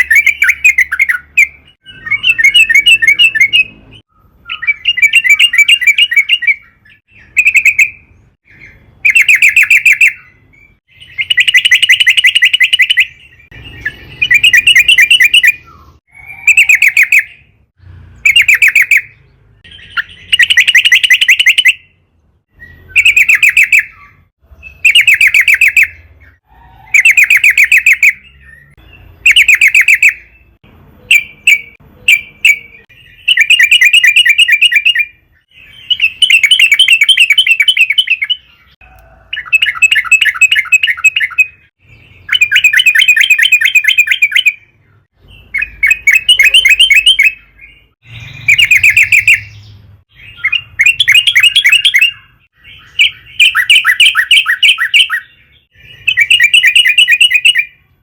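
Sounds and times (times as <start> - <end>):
bulbul bubbling chattering song: 0.0 - 17.5, 18.2 - 21.9, 22.6 - 30.4, 31.1 - 44.8, 45.4 - 57.8.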